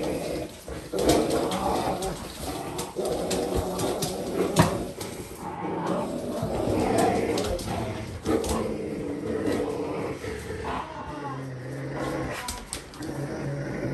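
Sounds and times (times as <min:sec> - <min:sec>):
dogs growling in play: 0:00.0 - 0:13.9.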